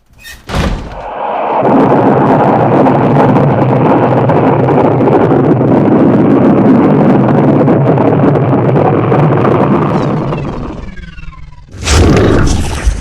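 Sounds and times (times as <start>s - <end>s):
loud rumbling roar: 1.0s - 11.0s, 11.7s - 13.0s.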